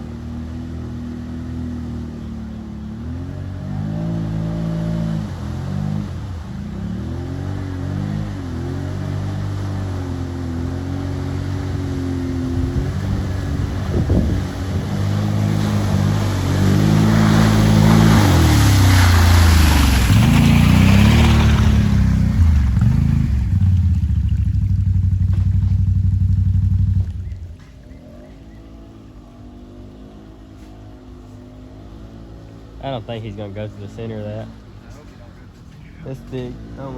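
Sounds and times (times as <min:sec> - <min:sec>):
atv engine revving: 0:00.0 - 0:35.0
mud and water splashing: 0:00.0 - 0:36.9.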